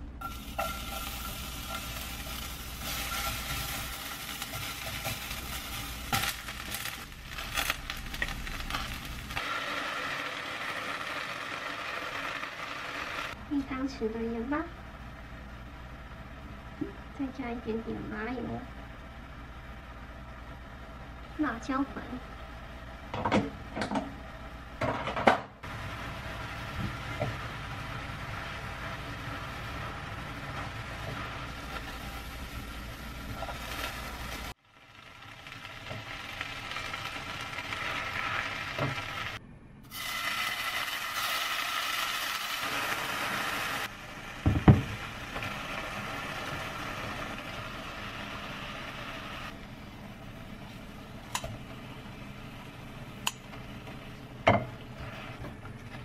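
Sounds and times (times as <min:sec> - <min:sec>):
vegetables frying in a pan: 0:00.2 - 0:24.8, 0:25.6 - 0:56.0.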